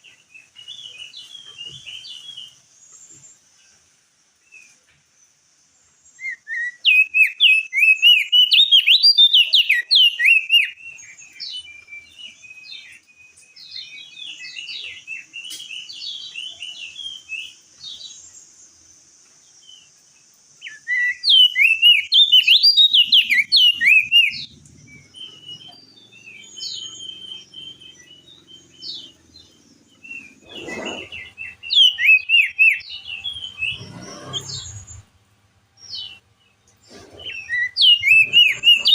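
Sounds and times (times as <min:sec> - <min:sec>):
bird singing whistled notes: 0:00.0 - 0:03.4, 0:06.0 - 0:18.8, 0:20.6 - 0:35.2, 0:35.8 - 0:38.9
faint high hiss: 0:00.0 - 0:09.1, 0:10.1 - 0:38.8
soft bird chirps: 0:00.0 - 0:35.2, 0:35.8 - 0:38.9.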